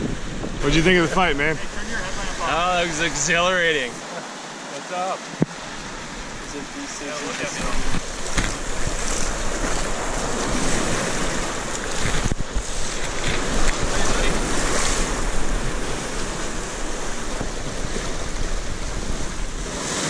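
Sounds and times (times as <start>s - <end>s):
wind buffeting microphone: 0.0s - 4.0s, 5.4s - 20.0s
surf breaking: 0.0s - 20.0s.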